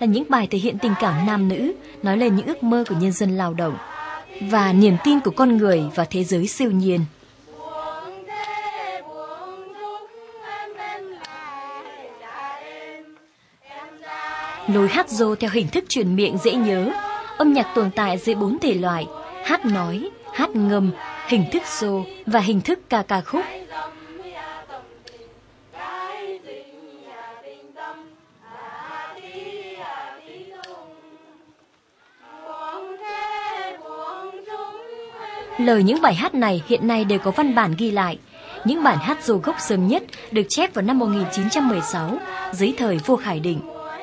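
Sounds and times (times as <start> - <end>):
women singing folk song: 0.0 - 44.0.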